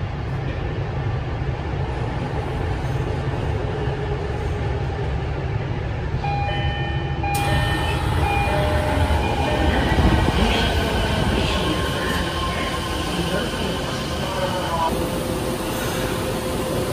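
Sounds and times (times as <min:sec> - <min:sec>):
subway train rumble: 0:00.0 - 0:16.9.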